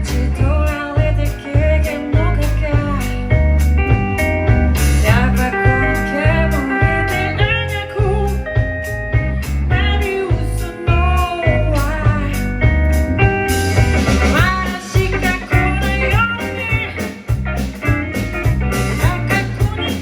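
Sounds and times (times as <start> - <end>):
guitar with bent notes: 0.0 - 20.0
heavy bass: 0.0 - 20.0
steady drums: 0.0 - 20.0.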